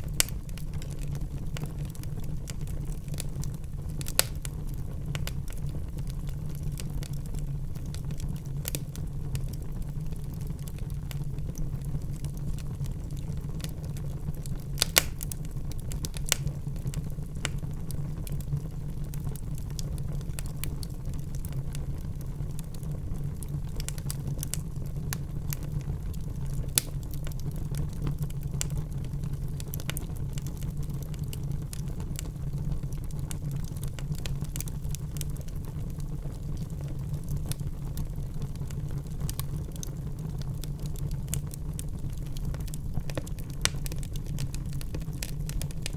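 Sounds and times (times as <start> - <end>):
loud pops from the fire: 0.0 - 7.2, 7.8 - 18.4, 19.1 - 45.9
wood fire crackling: 0.0 - 45.9.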